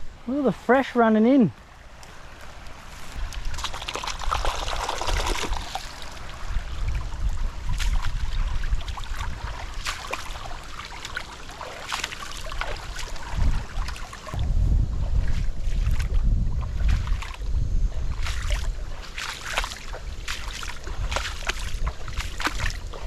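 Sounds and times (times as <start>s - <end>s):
feet splashing in shallow water: 1.6s - 23.0s
trickling water: 1.6s - 23.0s
wind rumble on microphone: 2.6s - 11.0s, 12.4s - 23.0s.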